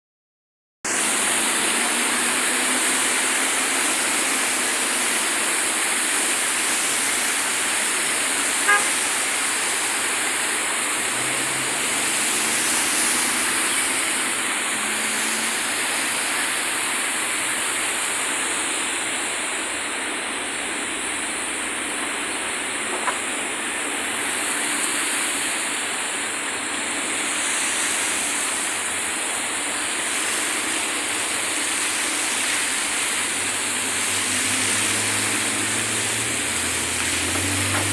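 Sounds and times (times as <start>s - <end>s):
water rushing through canal: 0.9s - 37.9s.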